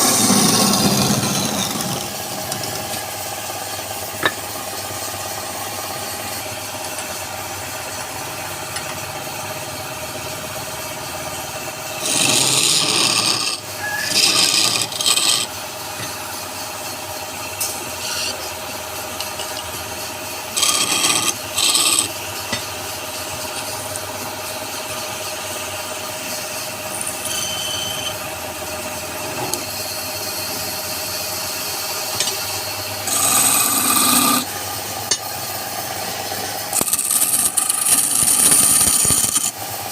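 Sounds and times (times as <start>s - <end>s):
tool rubbing spinning wood: 0.0s - 39.9s
wood lathe running: 0.0s - 39.9s.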